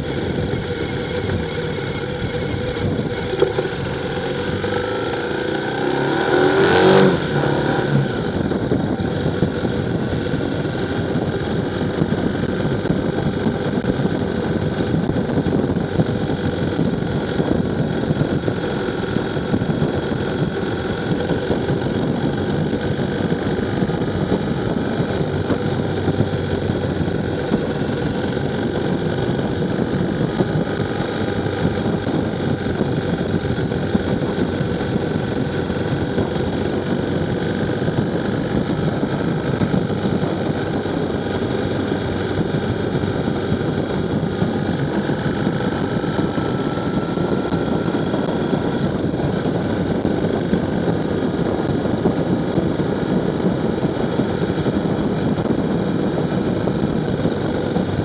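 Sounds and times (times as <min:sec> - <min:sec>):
vehicle engine running: 0:00.0 - 0:58.0
wind and road noise: 0:00.0 - 0:58.0.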